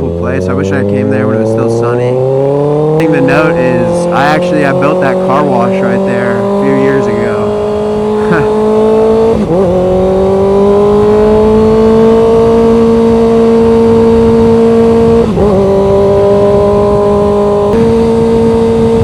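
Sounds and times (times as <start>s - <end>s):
motorcycle engine cruising: 0.0s - 19.0s.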